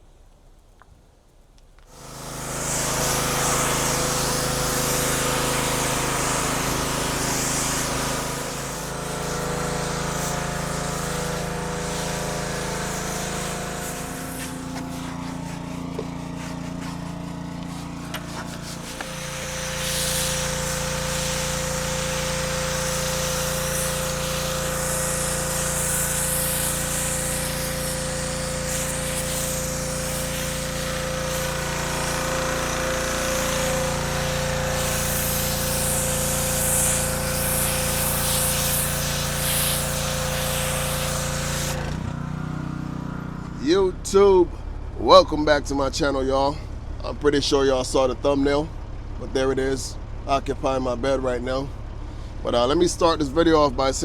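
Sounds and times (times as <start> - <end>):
engine running: 1.8 - 54.0.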